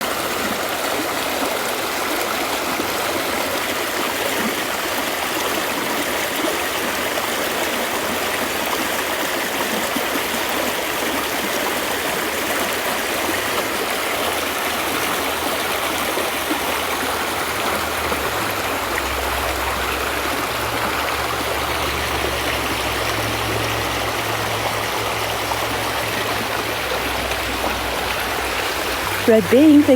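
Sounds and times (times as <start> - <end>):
stream flowing: 0.0 - 29.9.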